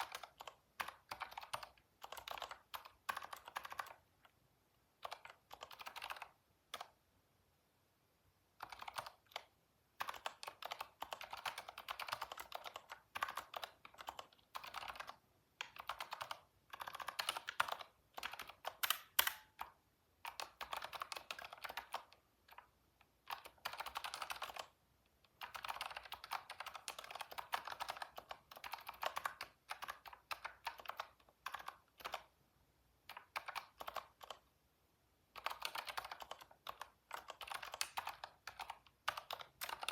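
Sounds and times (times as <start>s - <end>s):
keyboard typing: 0.0s - 4.4s, 5.0s - 7.0s, 8.6s - 32.4s, 33.0s - 34.5s, 35.3s - 39.9s.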